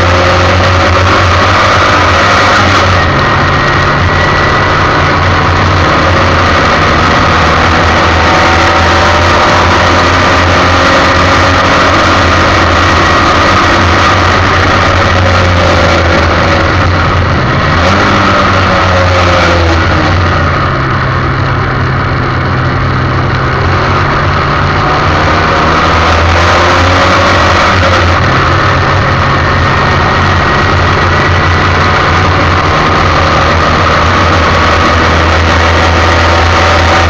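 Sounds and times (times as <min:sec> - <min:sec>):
gear changes: 0:00.0 - 0:37.0
race car engine running hard: 0:00.0 - 0:37.0.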